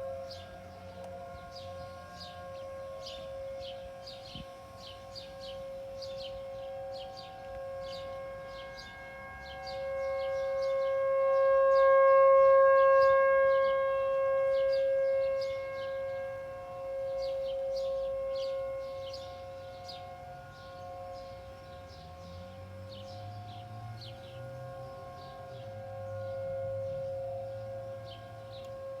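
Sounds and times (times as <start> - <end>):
tornado warning siren: 0.0 - 29.0.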